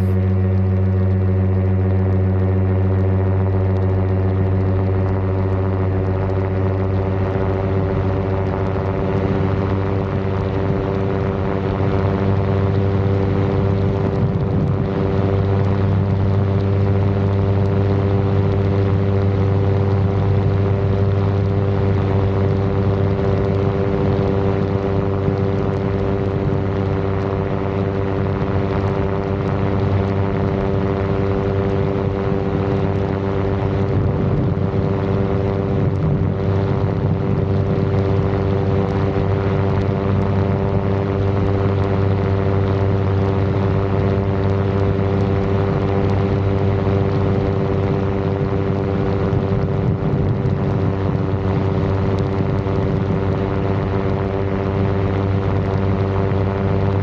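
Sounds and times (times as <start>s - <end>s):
ultralight aircraft engine drone: 0.0s - 57.0s.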